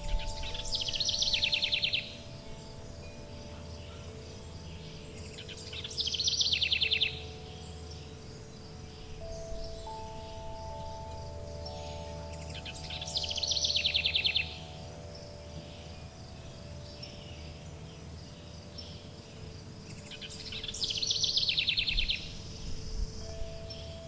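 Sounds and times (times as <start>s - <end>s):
songbird trilling: 0.0s - 24.0s
wind chimes ringing: 0.0s - 24.0s.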